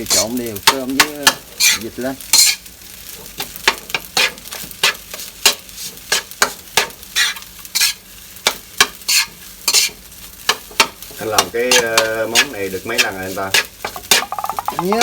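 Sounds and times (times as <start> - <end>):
food sizzling: 0.0 - 15.0
spatula scraping a frying pan: 0.0 - 15.0.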